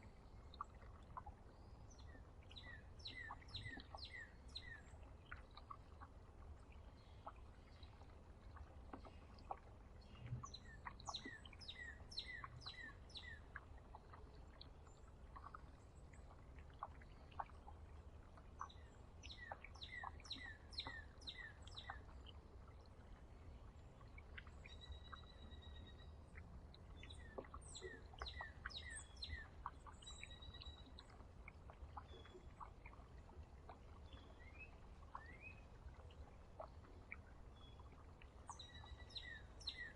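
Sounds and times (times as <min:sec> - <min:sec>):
songbird singing faintly: 0:00.0 - 0:39.9.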